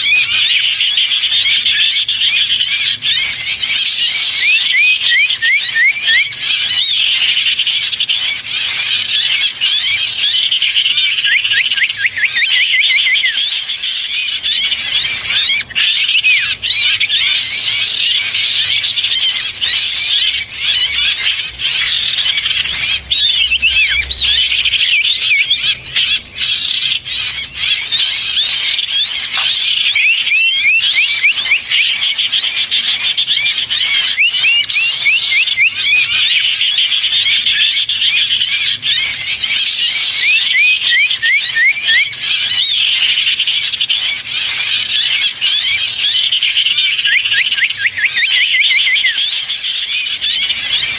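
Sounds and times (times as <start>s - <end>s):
small songbirds chirping: 0.0s - 50.9s.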